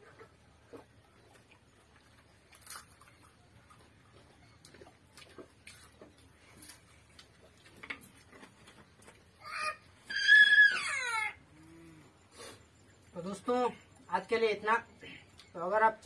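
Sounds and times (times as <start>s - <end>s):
people eating by hand: 0.0s - 16.0s.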